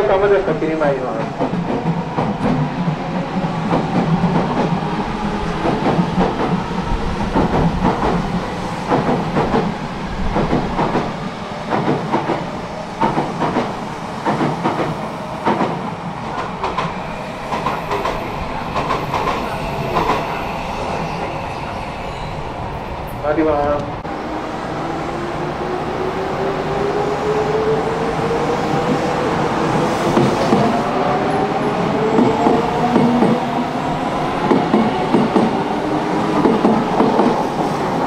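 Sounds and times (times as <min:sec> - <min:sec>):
train running noise: 0:00.0 - 0:24.2, 0:25.1 - 0:38.0.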